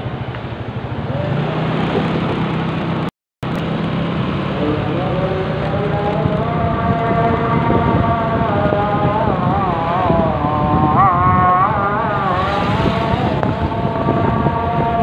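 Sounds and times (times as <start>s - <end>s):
engine rumble: 0.0s - 15.0s
wind: 0.0s - 15.0s.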